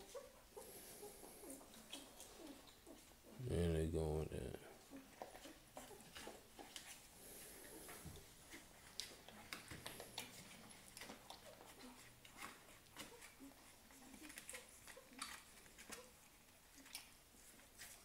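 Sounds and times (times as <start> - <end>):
puppies squeaking and grunting: 0.0 - 3.4, 4.7 - 18.0
puppies suckling clicks: 0.0 - 3.4, 4.7 - 7.1, 7.7 - 18.0.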